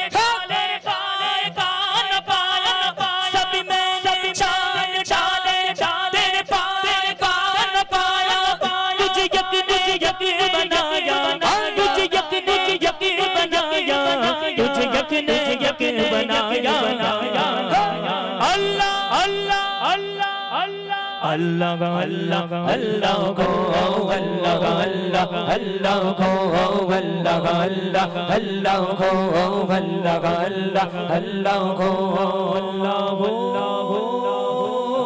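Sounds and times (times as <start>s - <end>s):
man singing into microphone: 0.0s - 35.0s.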